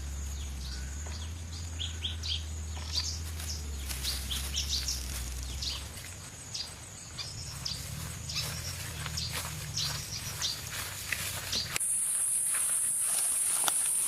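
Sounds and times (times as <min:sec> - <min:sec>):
low rumble: 0:00.0 - 0:11.8
birds chirping: 0:00.0 - 0:14.0.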